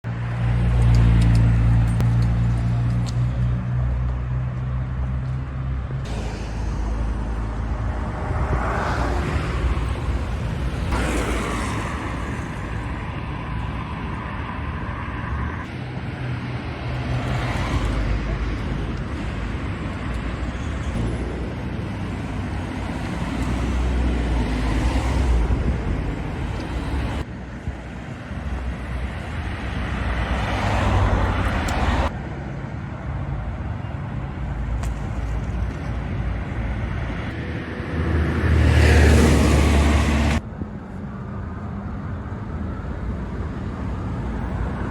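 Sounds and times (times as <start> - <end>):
cars passing on a highway: 0.1 - 44.9.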